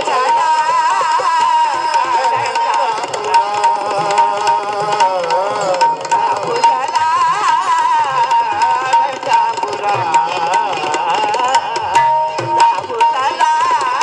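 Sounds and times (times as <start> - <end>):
person singing ornamented melody: 0.0 - 14.0
sharp percussive strikes: 0.0 - 14.0.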